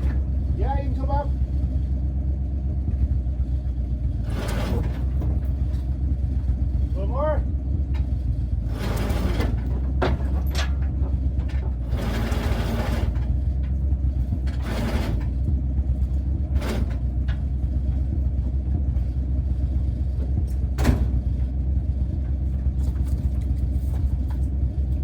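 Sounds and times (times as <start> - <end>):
vehicle engine low rumble: 0.0 - 25.0.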